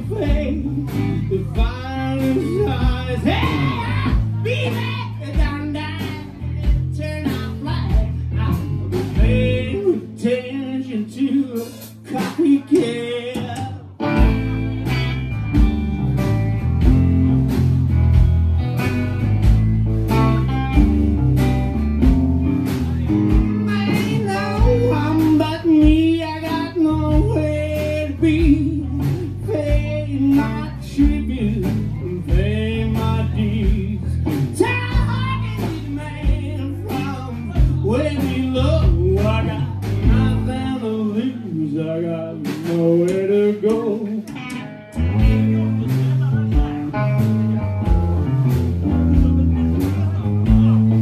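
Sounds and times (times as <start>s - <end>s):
electric guitar lead: 0.0s - 42.5s, 43.1s - 51.0s
bass guitar: 0.0s - 51.0s
drums: 0.0s - 51.0s.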